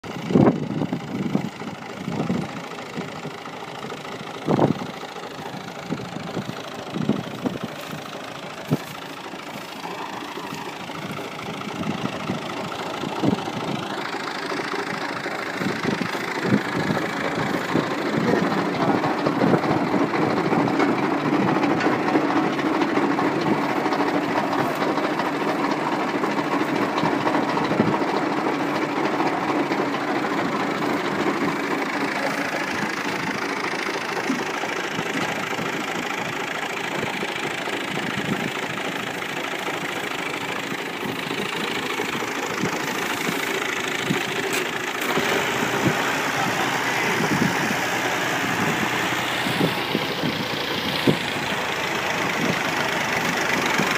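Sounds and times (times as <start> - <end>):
tractor diesel engine idling: 0.0 - 53.9.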